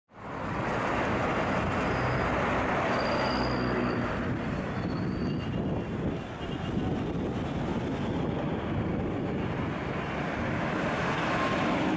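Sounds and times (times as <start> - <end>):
engine and tyre noise: 0.1 - 11.9
cars driving past: 0.2 - 11.9.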